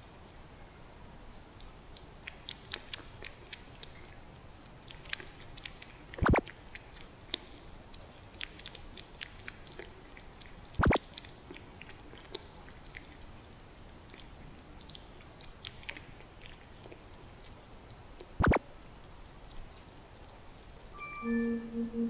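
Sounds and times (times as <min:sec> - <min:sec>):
kitten chewing and licking: 0:01.2 - 0:21.0.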